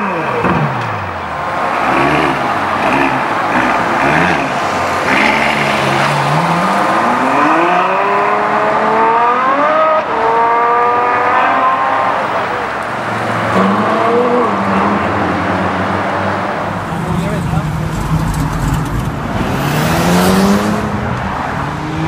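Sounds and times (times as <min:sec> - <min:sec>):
car engine revving and accelerating: 0:00.0 - 0:12.6, 0:13.2 - 0:22.0.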